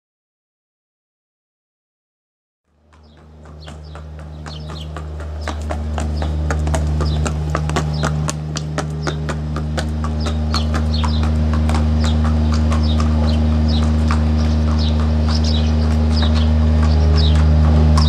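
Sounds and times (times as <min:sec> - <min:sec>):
horse hooves clip-clopping: 0:02.7 - 0:18.0
steady low hum: 0:02.7 - 0:18.0.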